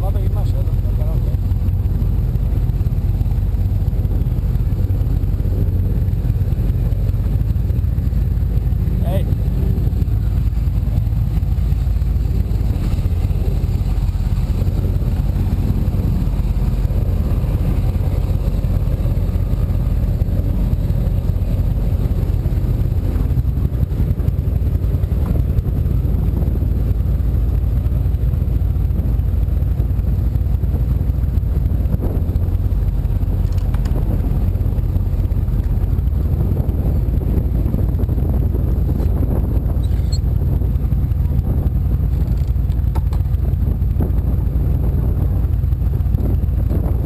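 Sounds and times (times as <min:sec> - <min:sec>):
powerboat engine rumbling: 0:00.0 - 0:47.0.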